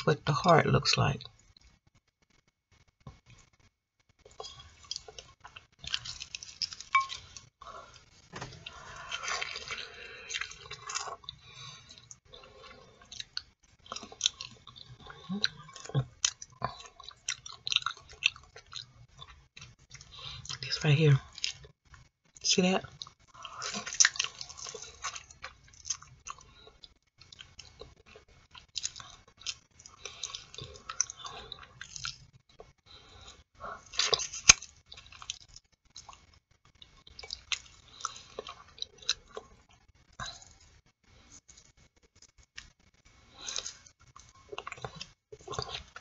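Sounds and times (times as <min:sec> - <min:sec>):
chewing and lip smacking: 0:04.2 - 0:22.1, 0:22.8 - 0:46.0.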